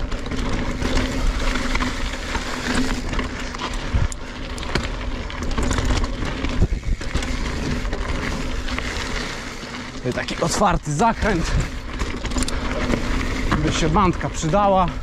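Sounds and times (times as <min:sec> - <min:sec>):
bicycle tyres on dirt and rocks: 0:00.0 - 0:15.0
bike knocking and rattling: 0:00.0 - 0:15.0.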